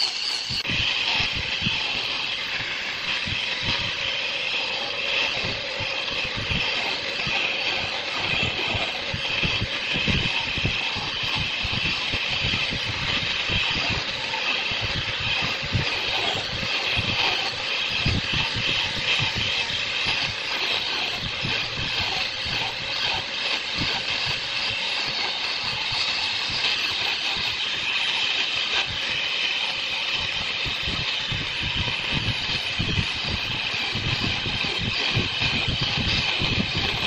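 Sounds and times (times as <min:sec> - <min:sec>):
woodworking machinery hiss: 0:00.0 - 0:37.0.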